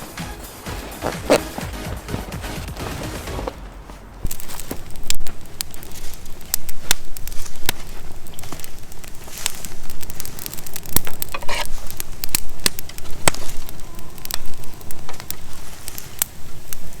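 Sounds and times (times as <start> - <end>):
dry twigs crackling and snapping: 0.0 - 17.0.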